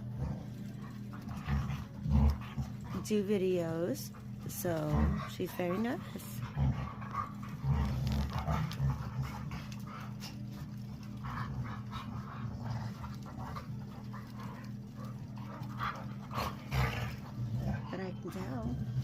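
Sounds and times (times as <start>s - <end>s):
steady low hum: 0.0s - 19.0s
dog panting: 0.2s - 19.0s.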